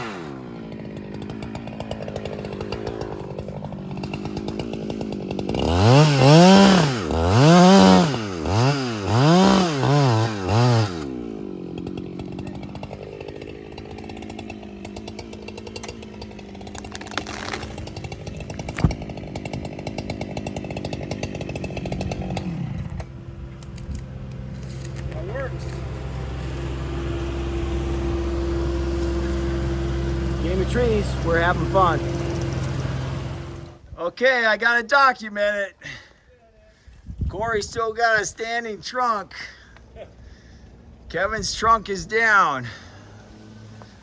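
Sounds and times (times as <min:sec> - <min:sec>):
chainsaw idling and revving: 0:00.0 - 0:34.0, 0:37.4 - 0:44.0.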